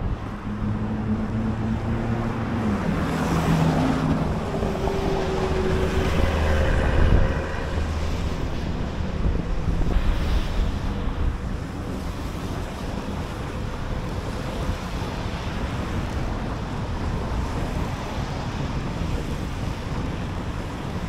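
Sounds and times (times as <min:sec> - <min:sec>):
car traffic: 0:00.0 - 0:21.0
engine hum: 0:00.0 - 0:21.0
wind buffeting microphone: 0:00.0 - 0:21.0.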